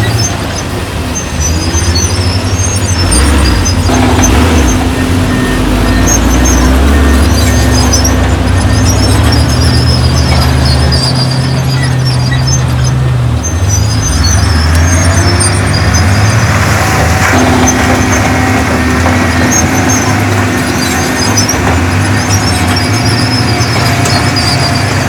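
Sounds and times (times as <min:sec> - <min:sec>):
faint high squeals: 0:00.0 - 0:25.0
heavy diesel machinery running: 0:00.0 - 0:25.0.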